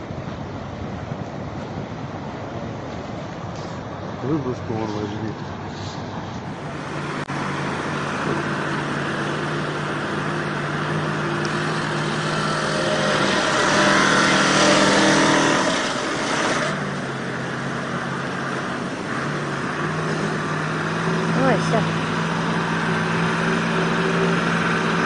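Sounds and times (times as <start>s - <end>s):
rushing river water: 0.0s - 25.0s
truck engine running: 0.0s - 25.0s.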